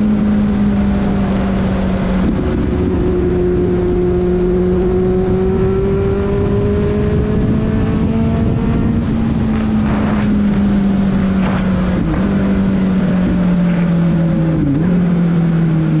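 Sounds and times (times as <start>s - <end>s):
motorcycle engine cruising: 0.0s - 16.0s
noisy rush: 0.0s - 16.0s.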